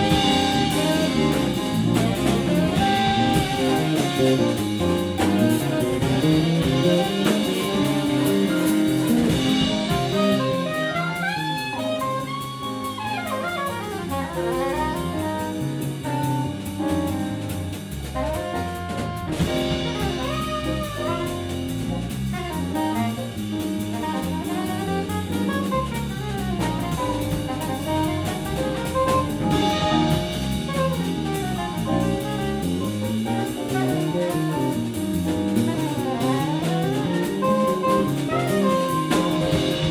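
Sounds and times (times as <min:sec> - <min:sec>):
drum kit: 0:00.0 - 0:39.9
saxophone melody: 0:00.0 - 0:39.9.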